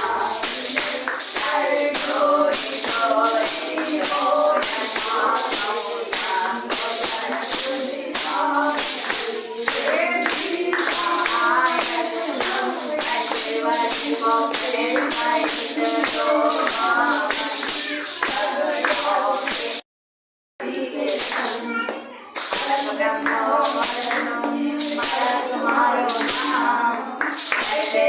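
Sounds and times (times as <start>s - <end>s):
devotional singing: 0.0s - 19.8s, 20.6s - 21.8s, 22.4s - 28.0s
jingling hand percussion: 0.0s - 19.8s, 20.9s - 28.0s.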